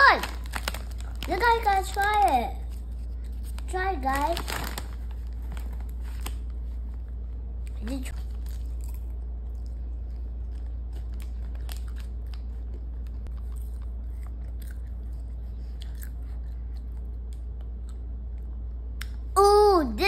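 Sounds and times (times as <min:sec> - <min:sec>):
child chewing popcorn: 0:00.0 - 0:06.9, 0:07.6 - 0:19.3
steady low hum: 0:00.0 - 0:20.0.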